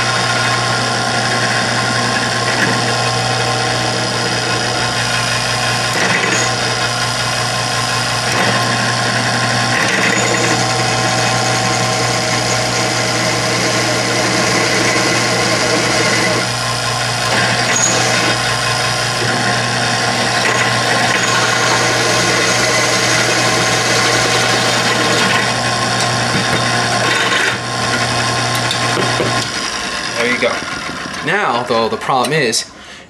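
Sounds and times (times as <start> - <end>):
drill press cutting steel: 0.0 - 32.5.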